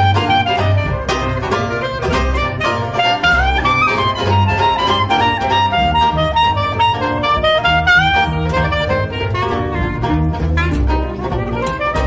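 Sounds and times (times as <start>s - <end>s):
clarinet melody: 0.0s - 12.0s
plucked double bass: 0.0s - 12.0s
strummed banjo: 0.0s - 12.0s.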